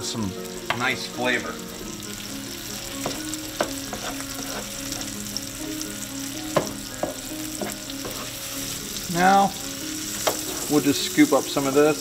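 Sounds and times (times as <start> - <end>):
food sizzling in a skillet: 0.0 - 12.0.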